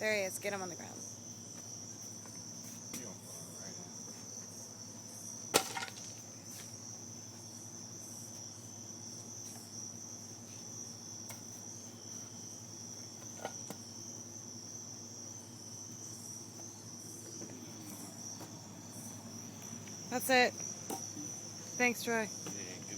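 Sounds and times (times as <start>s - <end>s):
cicadas droning: 0.0s - 22.9s.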